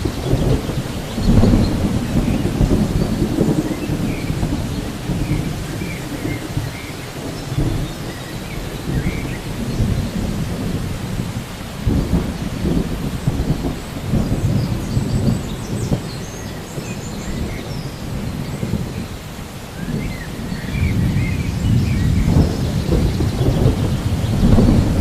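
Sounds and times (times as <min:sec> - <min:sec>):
rolling thunder: 0:00.0 - 0:25.0
steady rain: 0:00.0 - 0:25.0.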